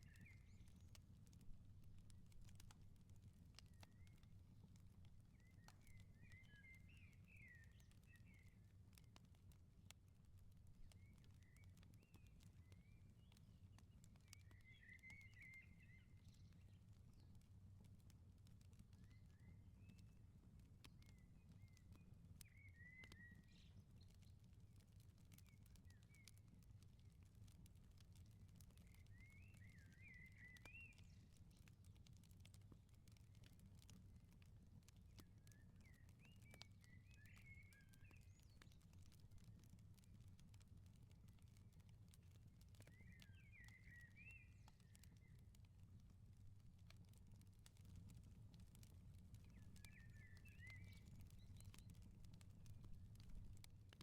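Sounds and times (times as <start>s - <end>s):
small birds chirping: 0.0s - 9.4s, 10.6s - 18.0s, 18.6s - 54.0s
wood fire crackling: 0.0s - 54.0s.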